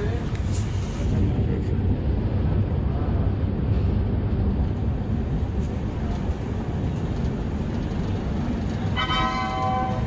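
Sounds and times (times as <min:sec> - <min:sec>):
moving train rumbling: 0:00.0 - 0:10.0.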